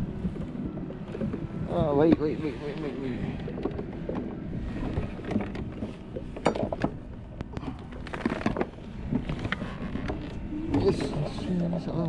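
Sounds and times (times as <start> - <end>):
low rumble of wind and water: 0.0 - 12.0
fishing gear clicks and knocks: 0.4 - 11.6.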